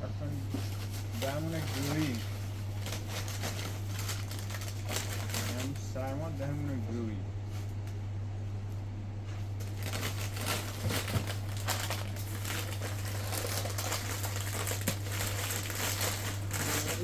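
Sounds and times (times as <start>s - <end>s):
steady low hum: 0.0s - 17.0s
rustling and crinkling handling noise: 0.1s - 17.0s.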